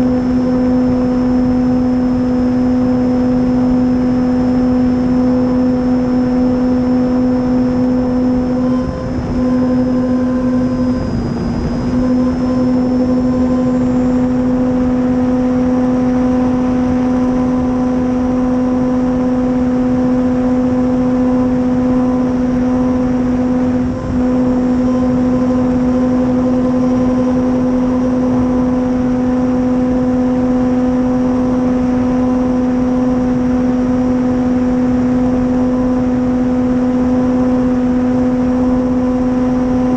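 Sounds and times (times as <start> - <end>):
electric motor and propeller droning: 0.0 - 39.9
wind rush: 0.0 - 39.9.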